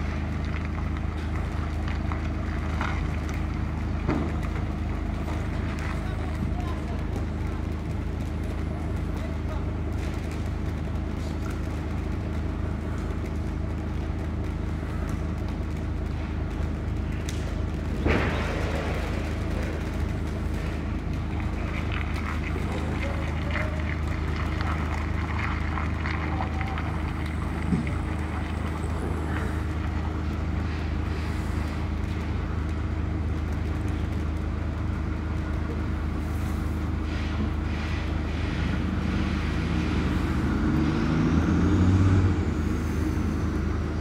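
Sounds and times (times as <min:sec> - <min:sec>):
lorry diesel engine drone: 0:00.0 - 0:44.0.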